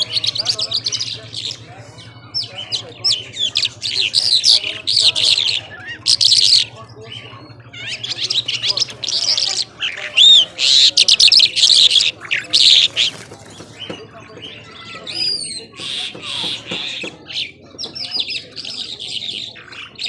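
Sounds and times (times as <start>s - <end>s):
lark singing: 0.0s - 20.0s.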